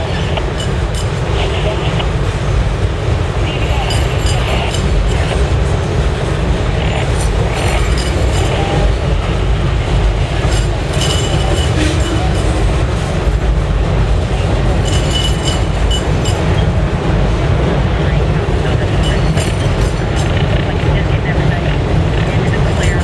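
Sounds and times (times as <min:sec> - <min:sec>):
freight train rumbling on bridge: 0:00.0 - 0:23.0.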